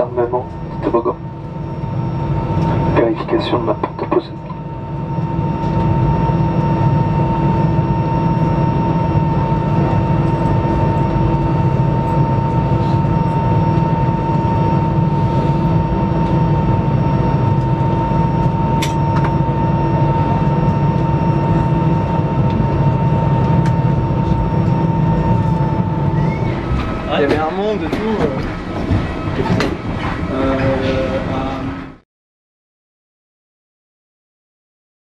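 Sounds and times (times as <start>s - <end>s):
jet engines idling in cabin: 0.0s - 32.0s.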